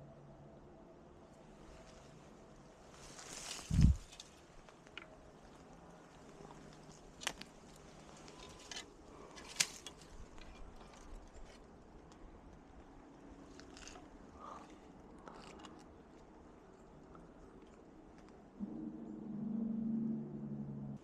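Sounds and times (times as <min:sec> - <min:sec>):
faint ticks and rustles: 0:01.3 - 0:18.4.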